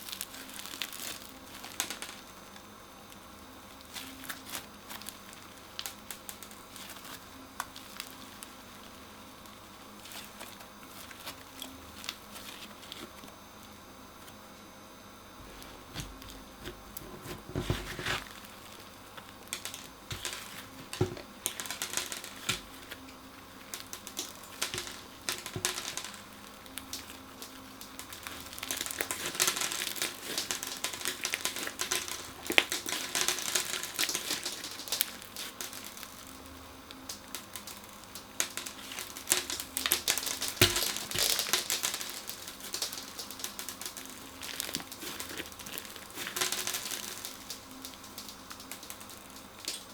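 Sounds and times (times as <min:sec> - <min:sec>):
crunchy slime crackling: 0:00.0 - 0:14.4, 0:15.2 - 0:49.9.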